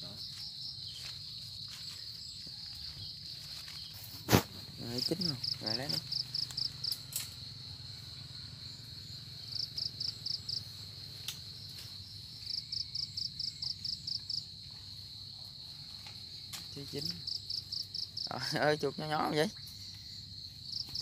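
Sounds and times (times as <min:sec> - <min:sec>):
insects droning: 0:00.0 - 0:21.0
rapid insect chirps: 0:00.0 - 0:21.0.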